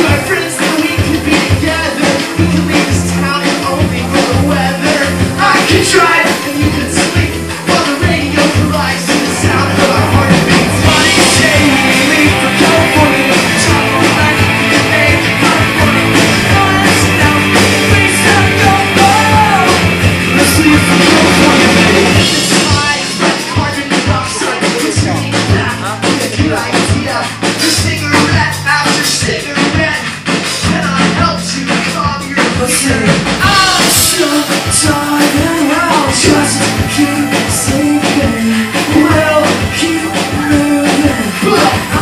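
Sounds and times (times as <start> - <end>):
person singing: 0.0 - 42.0
rock band playing live: 0.0 - 42.0.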